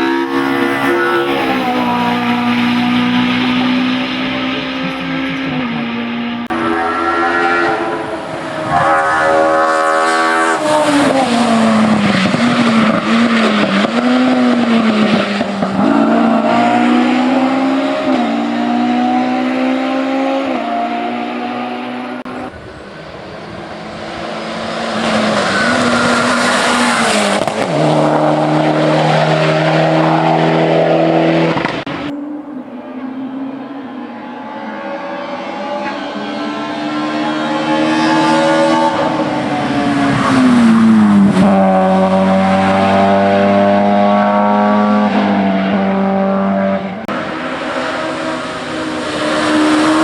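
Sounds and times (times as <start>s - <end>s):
car passing at high revs: 0.0s - 50.0s
race car engines revving: 0.0s - 50.0s.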